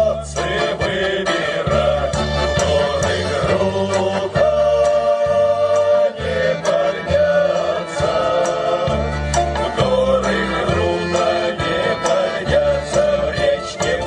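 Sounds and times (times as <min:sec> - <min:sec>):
sustained bass notes: 0:00.0 - 0:14.0
vocal ensemble singing: 0:00.0 - 0:14.0.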